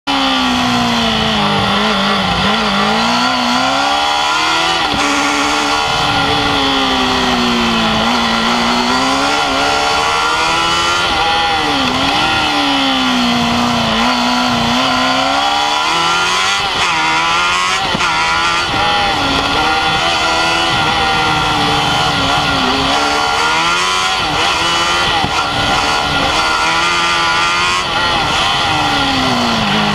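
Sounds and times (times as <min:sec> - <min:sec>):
race car engine accelerating and slowing: 0:00.0 - 0:29.9.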